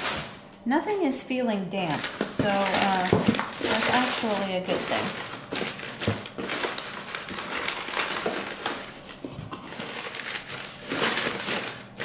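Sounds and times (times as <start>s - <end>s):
shredded paper rustling: 0.0s - 0.5s, 1.9s - 12.0s.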